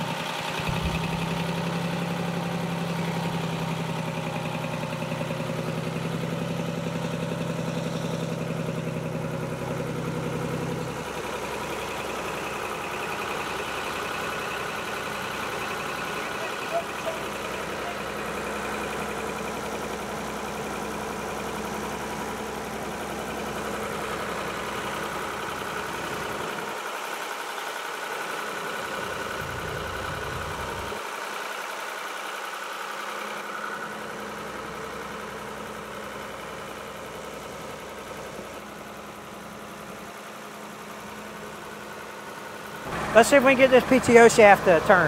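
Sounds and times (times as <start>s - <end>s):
tractor diesel engine idling: 0.0s - 45.0s.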